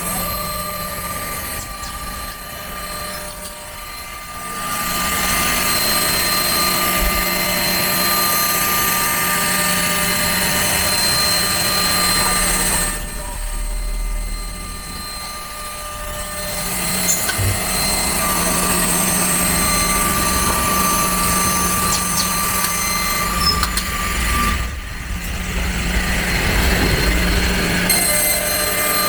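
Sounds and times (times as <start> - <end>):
router cutting noise: 0.0 - 29.0
router spindle whining: 0.0 - 29.0.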